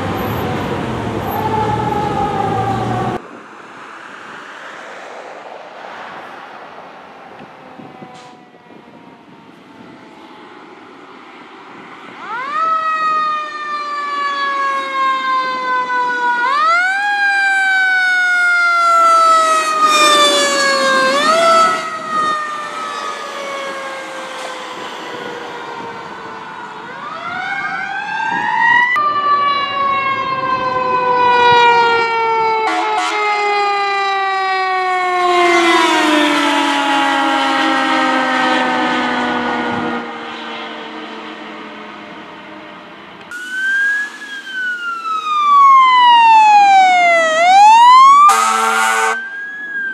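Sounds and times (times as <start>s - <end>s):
fire engine siren wailing: 0.0s - 3.4s, 6.1s - 49.9s.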